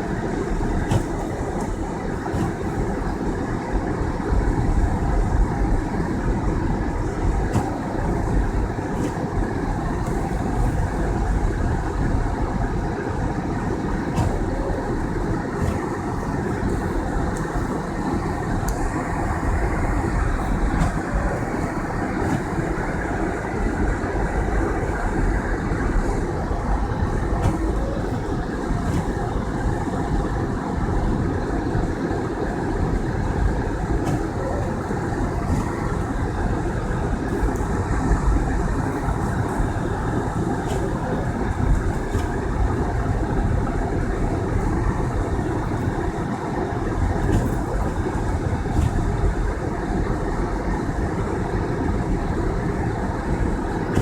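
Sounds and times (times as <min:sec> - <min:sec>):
car driving on snowy road: 0:00.0 - 0:54.0.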